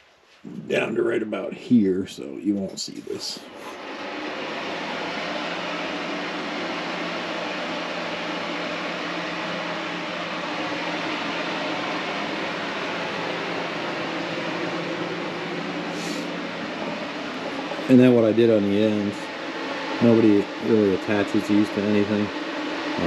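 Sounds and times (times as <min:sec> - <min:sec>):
fan blower running: 0:00.0 - 0:23.0.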